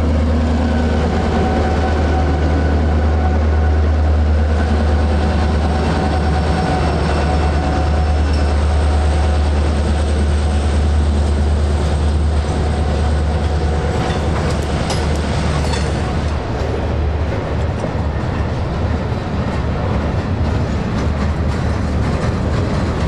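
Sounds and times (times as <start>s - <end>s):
diesel locomotive passing: 0.0s - 23.0s
freight train rumbling past: 0.0s - 23.0s.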